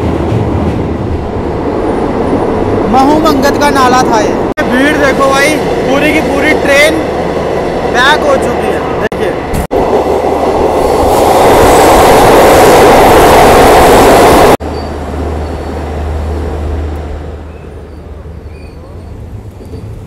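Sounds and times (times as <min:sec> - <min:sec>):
train low hum: 0:00.0 - 0:20.0
train rushing rumble: 0:00.0 - 0:20.0.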